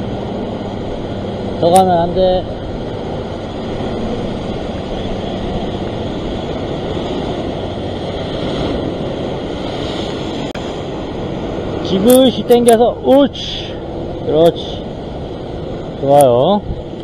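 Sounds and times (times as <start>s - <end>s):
surf breaking over rocks: 0.0s - 17.0s
wind buffeting microphone: 0.0s - 17.0s.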